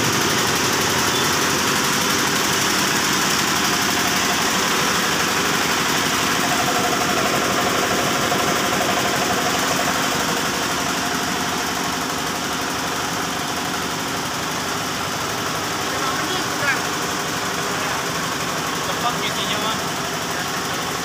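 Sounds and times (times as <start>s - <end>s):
air compressor pump: 0.0s - 21.0s
diesel engine running: 0.0s - 21.0s.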